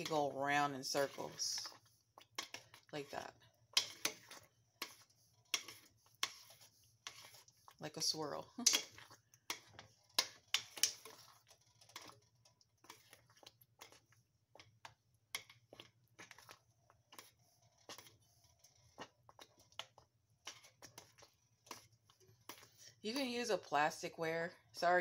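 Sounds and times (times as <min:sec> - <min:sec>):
metal spoon scraping a metal pot: 0:00.0 - 0:23.6.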